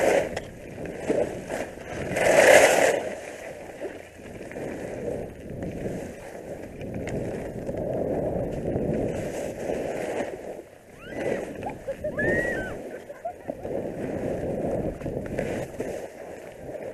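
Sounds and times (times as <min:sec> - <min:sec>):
skis scraping over snow: 0:00.0 - 0:16.9.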